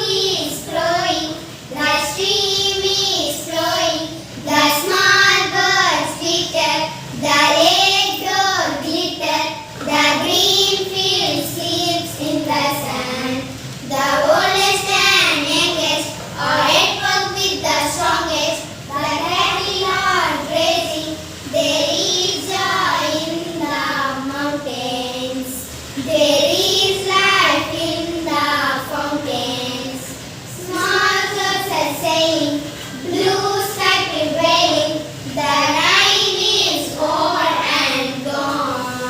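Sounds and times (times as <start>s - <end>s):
children chanting in chorus: 0.0s - 39.0s.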